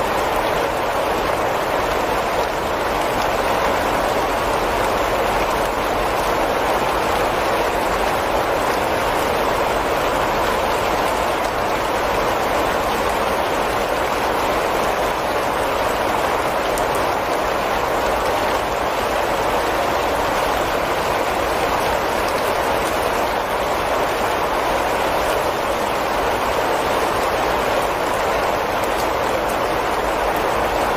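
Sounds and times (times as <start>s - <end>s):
rain falling on foliage: 0.0s - 30.9s.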